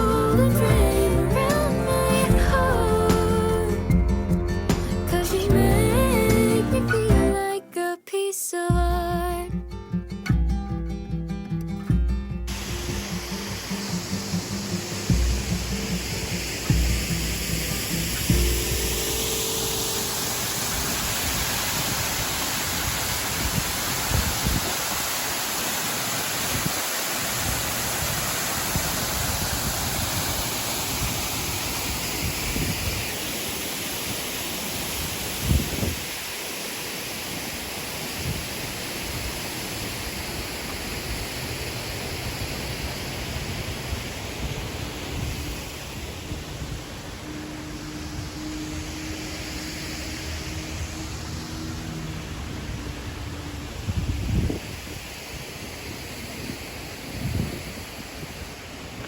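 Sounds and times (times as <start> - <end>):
rushing falling water: 0.0 - 7.4, 12.5 - 59.0.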